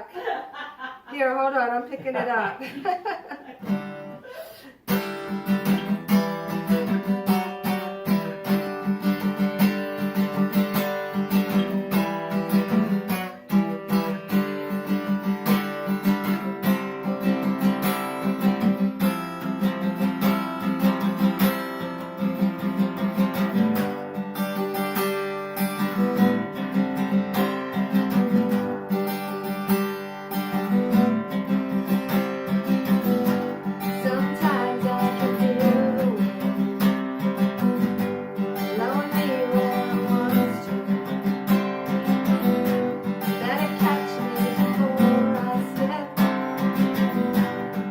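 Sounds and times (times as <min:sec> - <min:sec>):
acoustic guitar strumming: 0:02.5 - 0:47.9.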